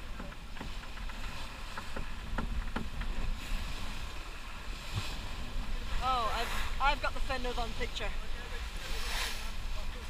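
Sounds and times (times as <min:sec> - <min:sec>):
water splashing along a hull: 0:00.0 - 0:10.0
wind buffeting the microphone: 0:00.0 - 0:10.0.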